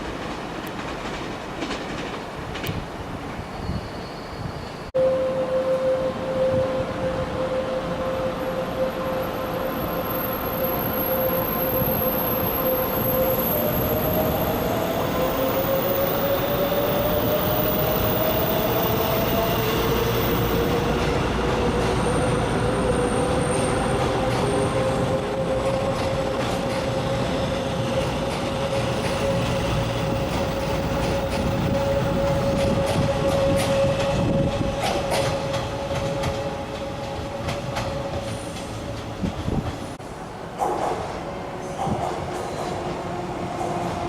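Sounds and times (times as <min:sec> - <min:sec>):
train wheels rumbling on rails: 0:00.0 - 0:04.9, 0:09.8 - 0:44.0
train whine: 0:03.2 - 0:44.0.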